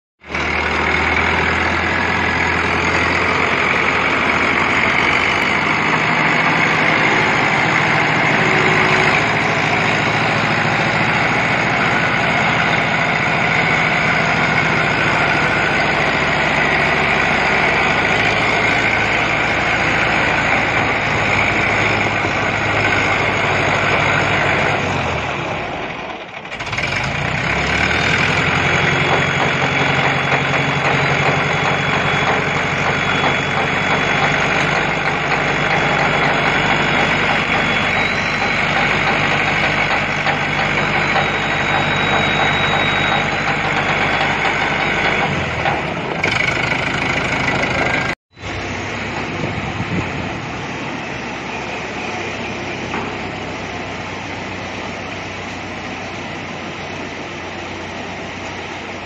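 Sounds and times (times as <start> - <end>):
diesel crane engine running: 0.2 - 59.0.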